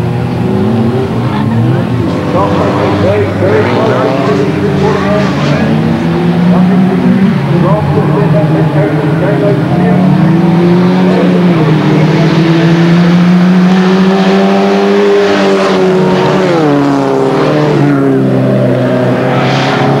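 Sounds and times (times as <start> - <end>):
racing cars passing at full throttle: 0.0 - 20.0.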